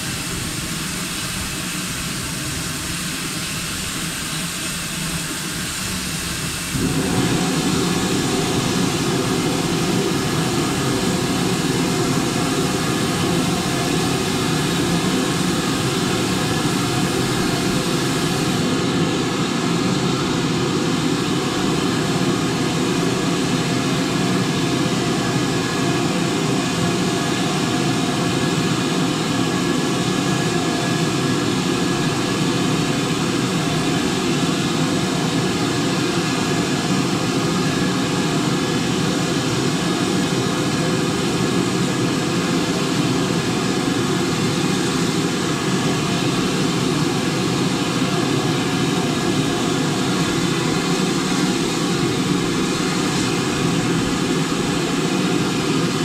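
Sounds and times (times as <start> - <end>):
steam locomotive rushing roar: 0.0 - 56.0.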